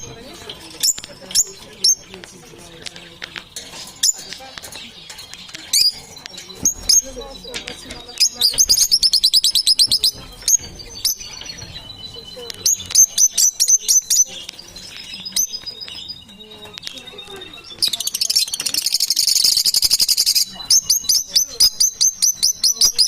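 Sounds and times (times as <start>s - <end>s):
parrots chirping: 0.0s - 23.0s.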